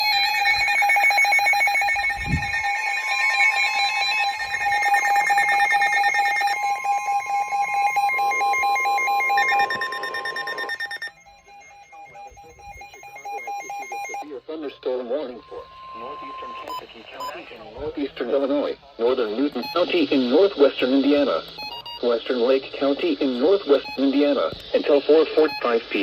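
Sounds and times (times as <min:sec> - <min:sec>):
fast beeping: 0:00.0 - 0:17.6, 0:19.0 - 0:26.0
layered steady alarm tones: 0:00.0 - 0:26.0.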